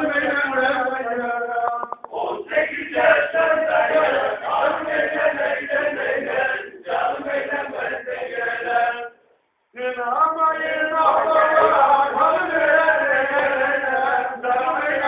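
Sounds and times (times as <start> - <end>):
group singing folk song: 0.0 - 9.2, 9.8 - 15.0.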